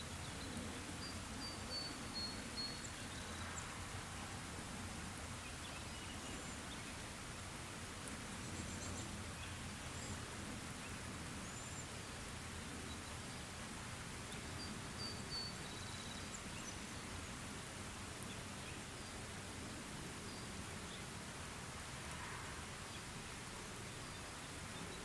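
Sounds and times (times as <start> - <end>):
light rain: 0.0 - 25.0.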